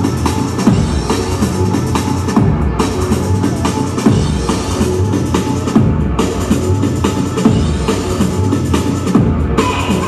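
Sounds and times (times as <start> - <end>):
dance music over speakers: 0.0 - 10.0.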